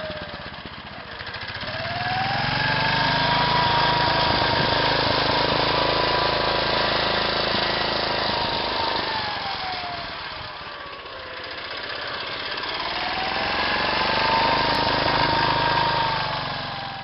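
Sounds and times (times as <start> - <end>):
small tractor engine running: 0.0 - 17.0.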